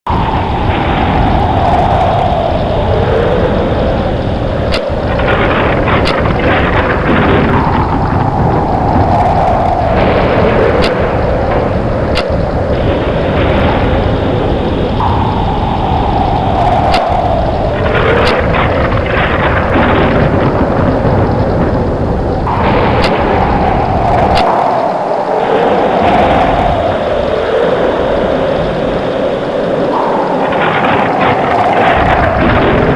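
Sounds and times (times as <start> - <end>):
wind howling in gusts: 0.0 - 32.9
sharp cracks: 0.1 - 32.9
steady heavy rumble: 0.1 - 32.9.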